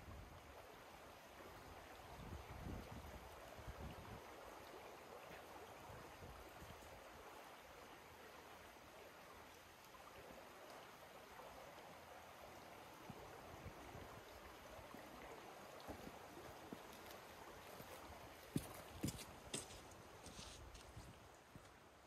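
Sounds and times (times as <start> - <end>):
creek water flowing: 0.0 - 22.0.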